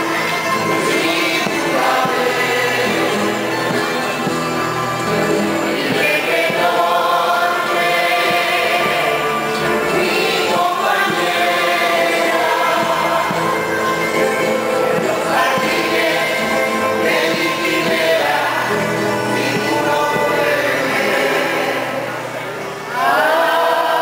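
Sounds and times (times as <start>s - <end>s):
double bass: 0.0s - 23.0s
plucked string instruments: 0.0s - 23.2s
strummed guitars: 0.0s - 23.4s
people singing in chorus: 0.0s - 24.0s.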